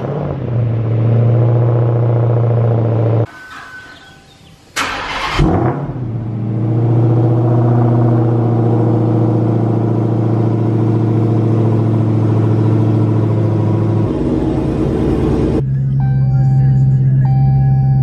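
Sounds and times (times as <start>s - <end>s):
car engine idling: 0.0s - 18.0s
car engine starting: 0.0s - 18.0s.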